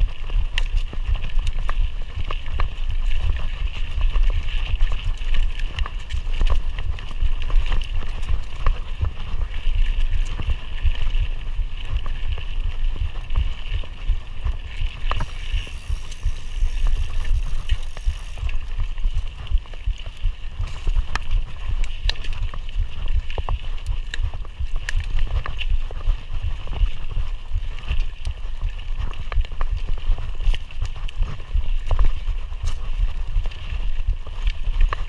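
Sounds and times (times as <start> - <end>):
bike knocking and rattling: 0.0 - 35.0
low wind rumble: 0.0 - 35.0.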